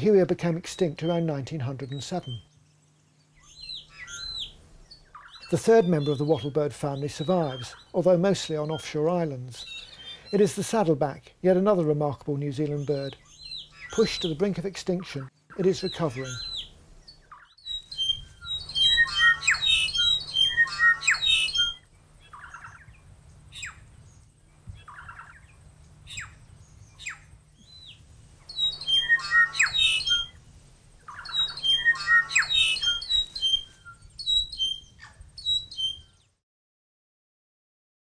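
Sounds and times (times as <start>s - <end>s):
bird calling rapidly: 3.4s - 10.9s, 12.7s - 36.2s.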